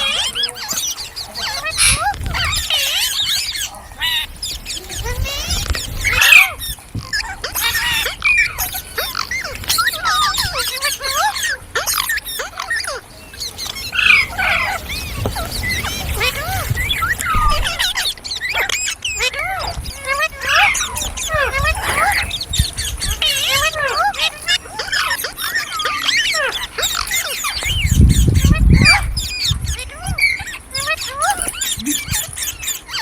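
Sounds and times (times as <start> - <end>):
parrot chattering and squawking: 0.0 - 33.0.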